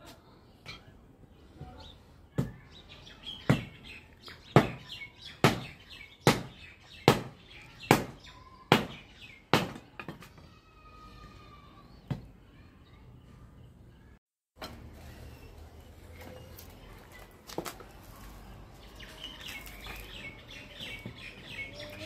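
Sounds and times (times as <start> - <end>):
birds chirping: 0.2 - 14.2, 14.8 - 22.0.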